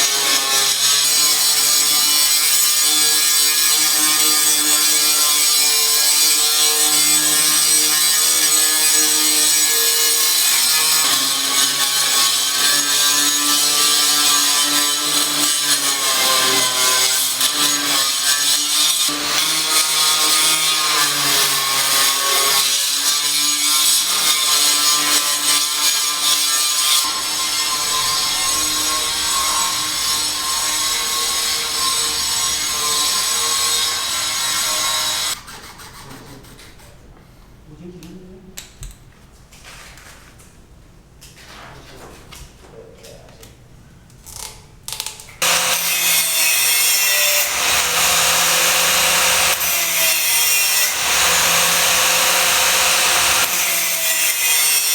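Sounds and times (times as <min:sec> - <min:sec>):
power tool cutting: 0:00.0 - 0:35.4, 0:45.4 - 0:54.9.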